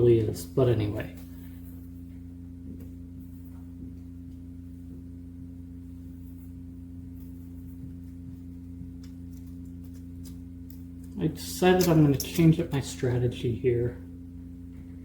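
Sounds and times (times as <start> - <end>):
low hum with two tones: 0.0 - 15.0.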